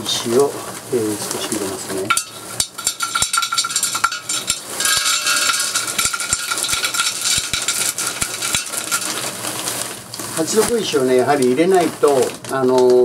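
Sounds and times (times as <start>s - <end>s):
small stones rattling into clay pot: 0.0s - 13.0s.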